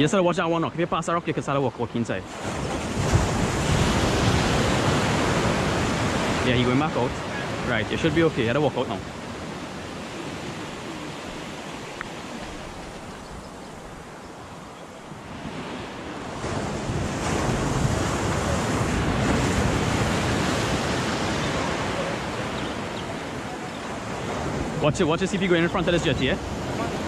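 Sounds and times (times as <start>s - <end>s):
sea waves breaking on rocks: 2.2s - 27.0s.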